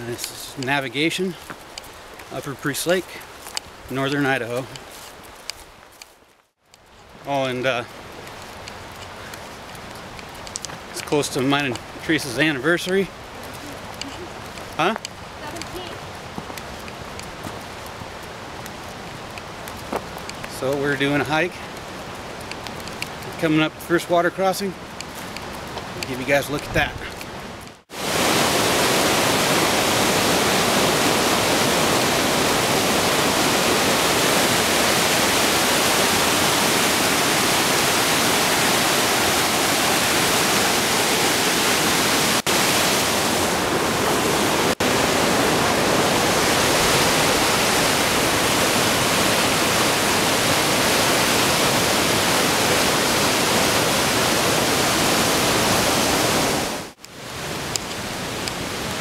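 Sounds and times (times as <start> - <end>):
creek rapids rushing: 0.0 - 5.2, 7.1 - 22.5, 27.9 - 59.0.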